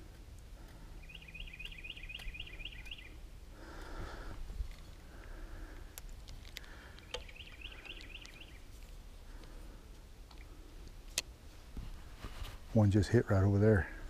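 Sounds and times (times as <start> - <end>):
songbird chirping: 0.0 - 11.3.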